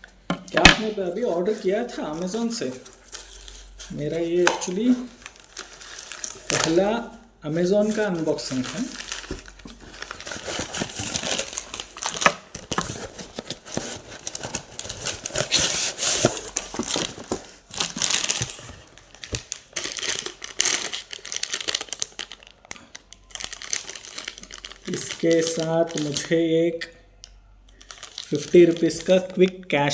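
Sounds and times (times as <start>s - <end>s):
packaging crinkling and rustling: 0.0s - 29.9s.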